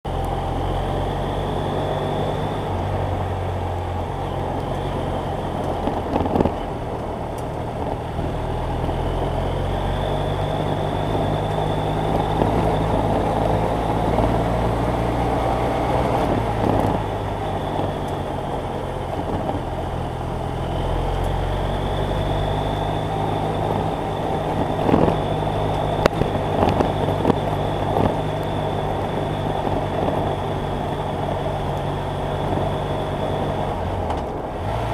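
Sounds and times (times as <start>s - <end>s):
motorcycle engine running: 0.0s - 34.9s
wind noise: 0.1s - 34.9s.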